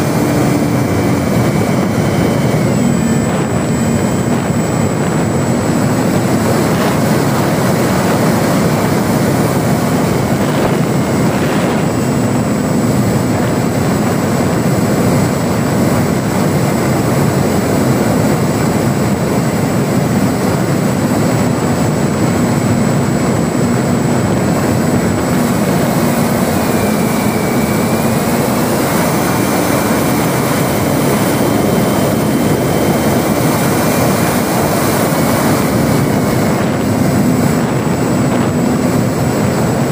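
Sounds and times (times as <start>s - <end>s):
high motor whine: 0.0s - 39.9s
model plane motor and propeller: 0.0s - 39.9s
wind rush: 0.0s - 39.9s.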